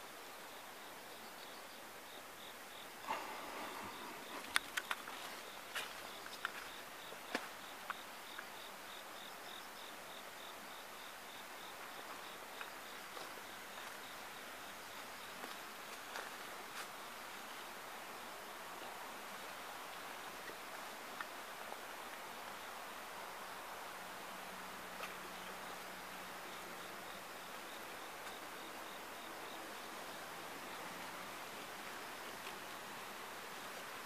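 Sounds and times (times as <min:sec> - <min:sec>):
cricket chirping: 0:00.0 - 0:34.0.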